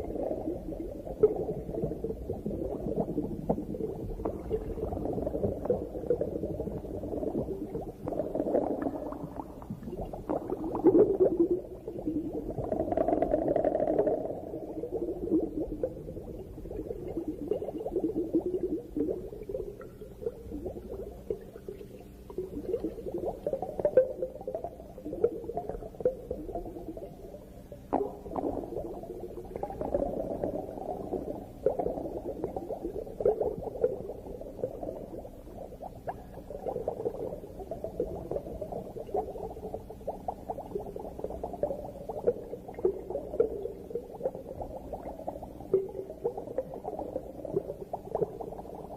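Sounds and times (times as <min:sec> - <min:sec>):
dense underwater crackling: 0:00.0 - 0:48.9
underwater bubbling and gurgling: 0:00.0 - 0:48.9.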